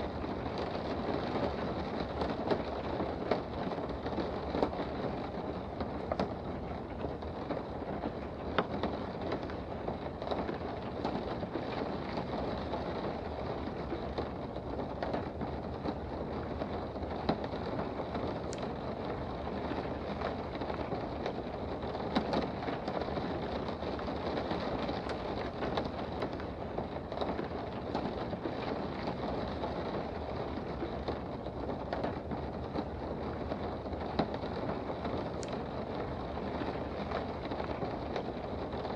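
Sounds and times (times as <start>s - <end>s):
rain heard from indoors: 0.0s - 38.9s
raindrop tapping: 0.0s - 38.9s.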